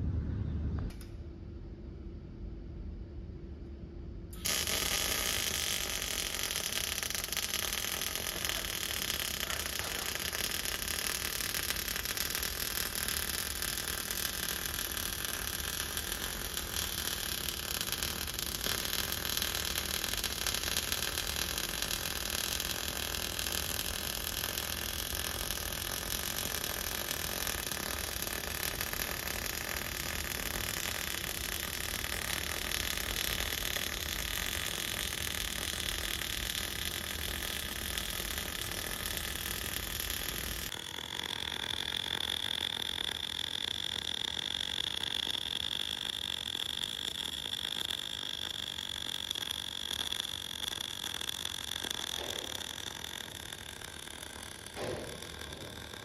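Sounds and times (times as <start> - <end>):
welding arc crackle and hiss: 4.4 - 56.0.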